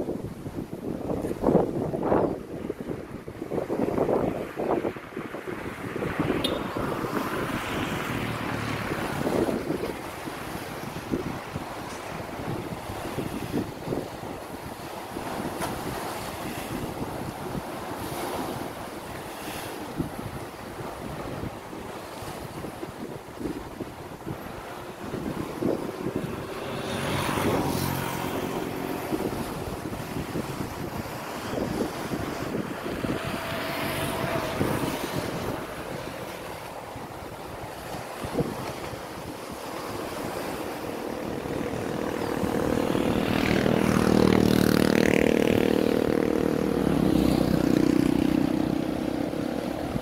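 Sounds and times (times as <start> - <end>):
sea surf on rocky shore: 0.0 - 50.0
wind buffeting microphone: 0.0 - 50.0.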